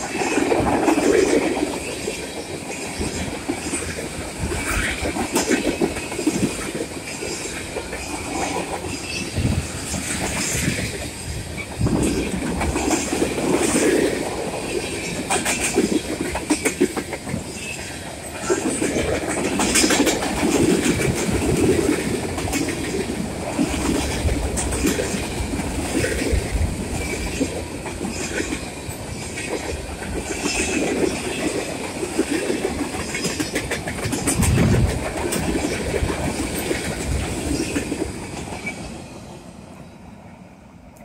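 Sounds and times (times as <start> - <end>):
wheels clicking over rail joints: 0.0 - 38.9
freight train wheels rumbling: 0.0 - 41.0.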